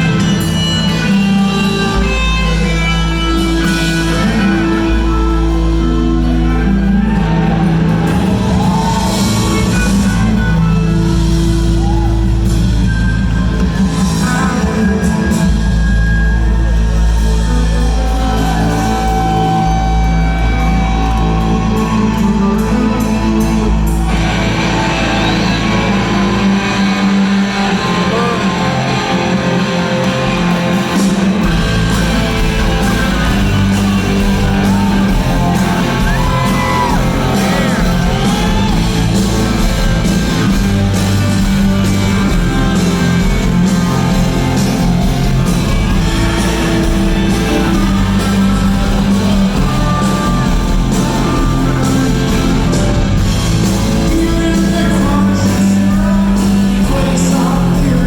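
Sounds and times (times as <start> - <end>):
distorted electric guitars: 0.0 - 58.0
live rock band playing: 0.0 - 58.0.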